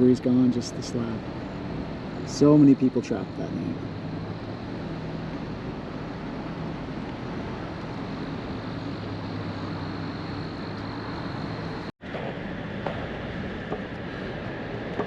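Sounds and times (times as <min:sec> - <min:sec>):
car engine low hum: 0:00.0 - 0:15.0.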